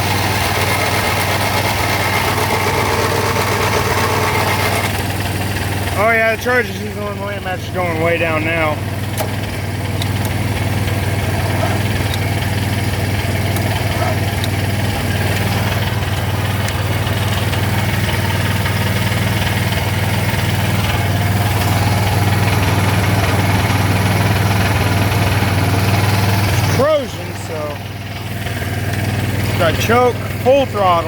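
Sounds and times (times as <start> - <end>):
engine running at raised idle: 0.0 - 31.0.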